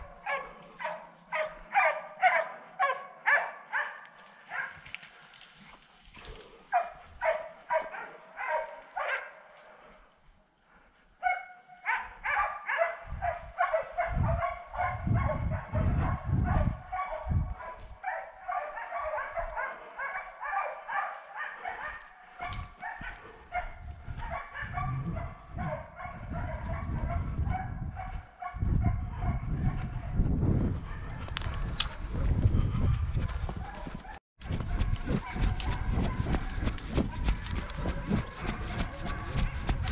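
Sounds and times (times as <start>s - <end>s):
hounds barking and baying: 0.0s - 5.3s, 6.2s - 39.9s.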